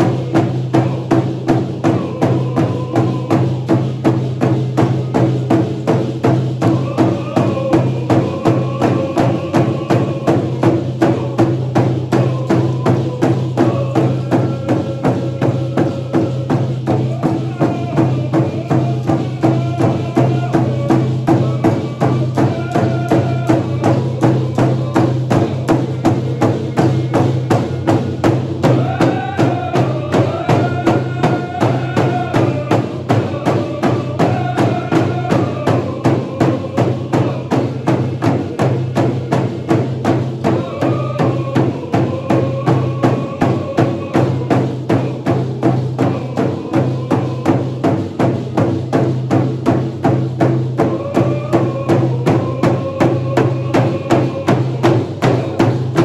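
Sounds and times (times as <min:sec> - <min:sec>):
group singing: 0:00.0 - 0:56.0
hand drums beating: 0:00.0 - 0:56.0.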